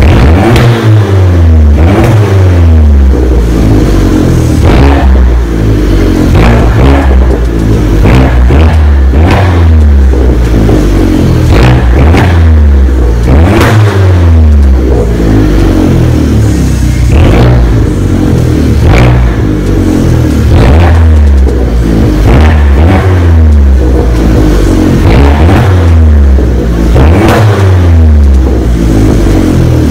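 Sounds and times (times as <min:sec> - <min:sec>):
car engine revving: 0:00.0 - 0:29.9.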